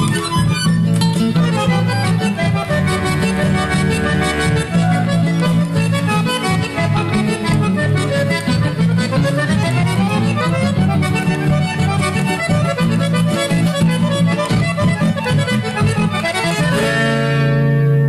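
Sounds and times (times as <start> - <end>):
accordion playing fast runs: 0.0 - 18.0
strummed accompaniment: 0.0 - 18.0.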